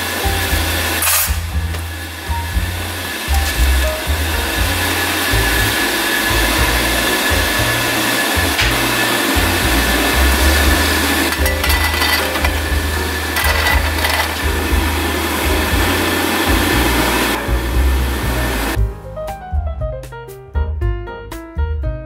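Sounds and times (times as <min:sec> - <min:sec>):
steady rushing noise: 0:00.0 - 0:18.8
background music with bass line: 0:00.0 - 0:22.0.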